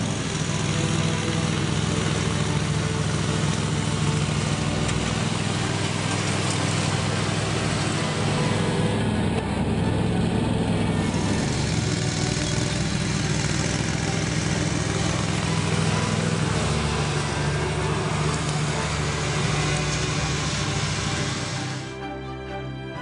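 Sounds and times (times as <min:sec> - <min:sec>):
lawn tractor engine running: 0:00.0 - 0:22.1.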